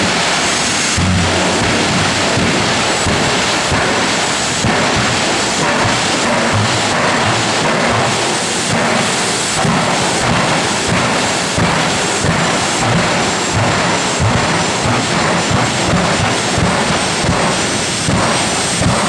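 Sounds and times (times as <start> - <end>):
turbine engines roaring: 0.0 - 19.0.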